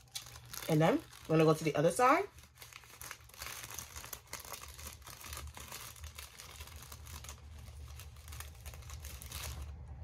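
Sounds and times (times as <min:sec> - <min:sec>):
low steady hum: 0:00.0 - 0:10.0
plastic wrapper crinkling: 0:00.0 - 0:10.0.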